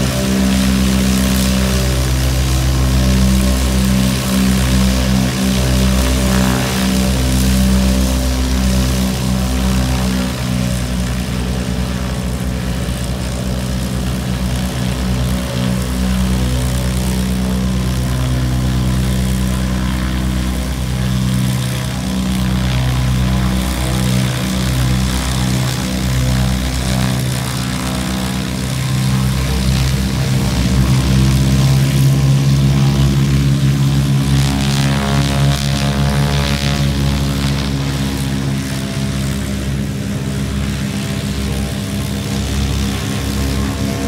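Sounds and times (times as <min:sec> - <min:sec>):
propeller plane engine running: 0:00.0 - 0:44.0.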